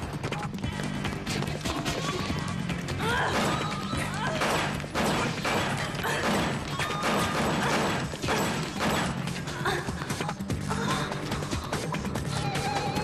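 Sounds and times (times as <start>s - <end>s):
dramatic music: 0.0s - 13.0s.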